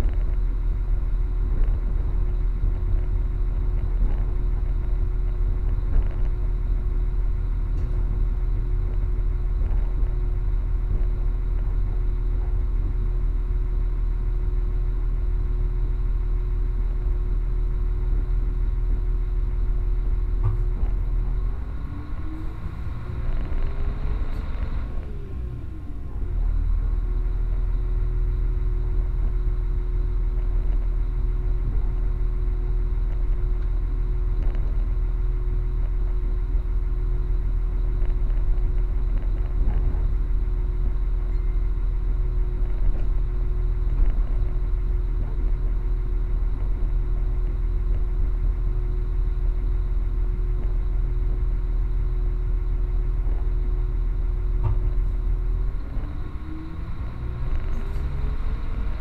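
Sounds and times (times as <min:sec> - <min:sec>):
droning hum: 0:00.0 - 0:59.0
train rumble inside carriage: 0:00.0 - 0:59.0.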